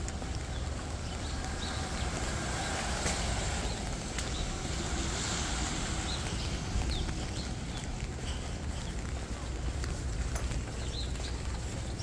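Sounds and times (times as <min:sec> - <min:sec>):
rain hissing: 0:00.0 - 0:10.9
low traffic rumble: 0:00.0 - 0:12.0
sharp rain ticks: 0:00.0 - 0:12.0.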